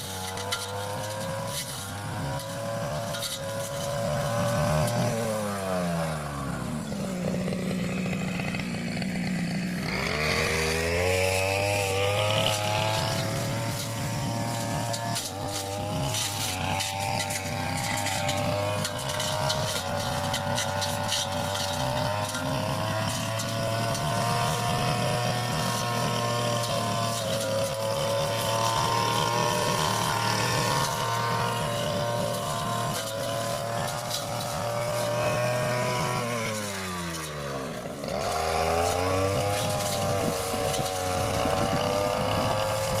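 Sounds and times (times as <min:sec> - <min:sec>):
brush cutter engine revving: 0:00.0 - 0:43.0.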